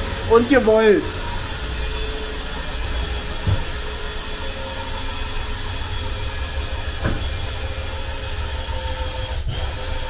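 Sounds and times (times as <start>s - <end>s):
lift bed drive mechanism running: 0.0s - 10.0s.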